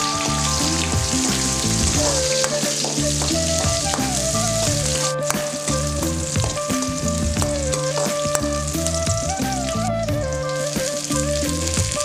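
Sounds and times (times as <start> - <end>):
food sizzling in hot oil: 0.0 - 9.5, 10.5 - 12.0
background music with bass line: 0.0 - 12.0.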